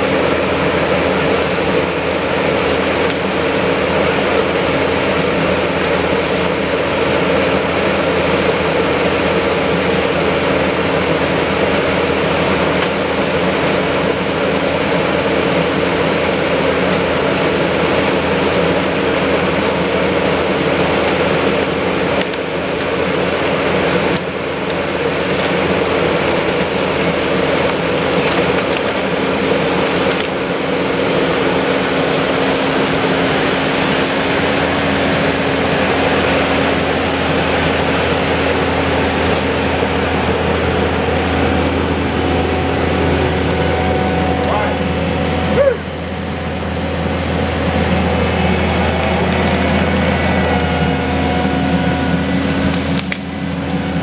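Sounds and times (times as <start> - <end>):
track loader diesel engine humming: 0.0 - 54.0.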